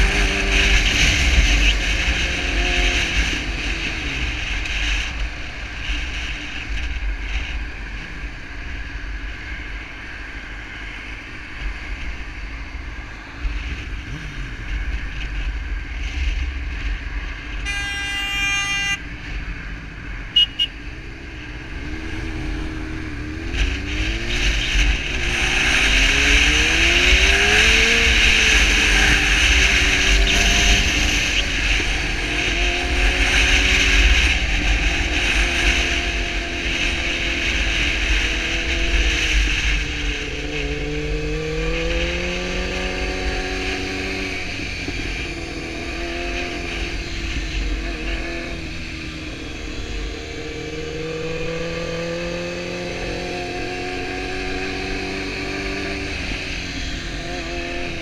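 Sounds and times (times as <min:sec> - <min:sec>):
motorcycle engine revving: 0:00.0 - 0:08.2, 0:13.5 - 0:18.7, 0:20.4 - 0:58.0
wind rushing over microphone: 0:00.0 - 0:17.7, 0:19.0 - 0:58.0.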